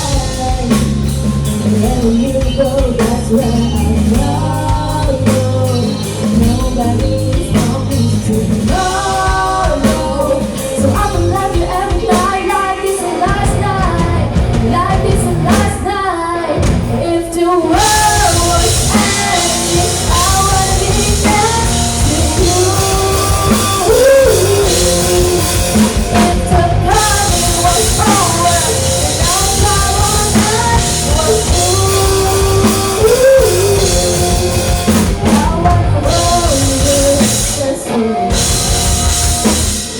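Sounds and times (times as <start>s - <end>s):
live rock band: 0.0s - 39.9s
person singing: 0.0s - 39.9s.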